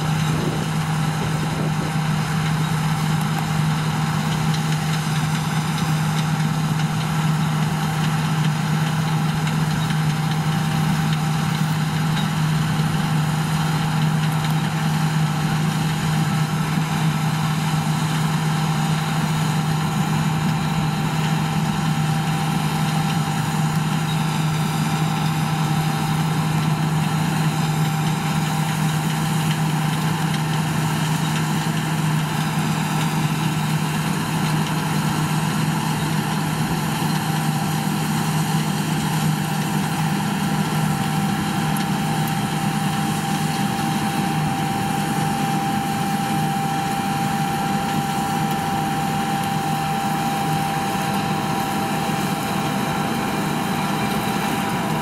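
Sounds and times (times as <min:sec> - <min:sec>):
combine harvester engine drone: 0:00.0 - 0:55.0
thin steady whine: 0:00.0 - 0:55.0.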